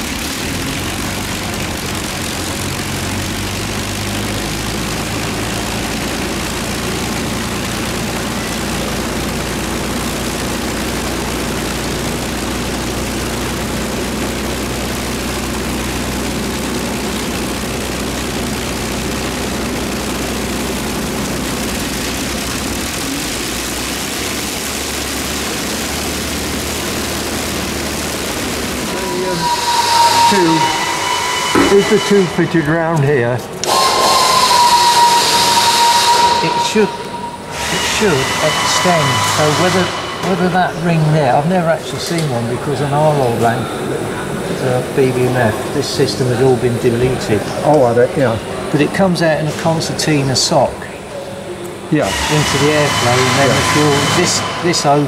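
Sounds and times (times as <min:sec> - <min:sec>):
heavy engine idling: 0:00.0 - 0:55.0.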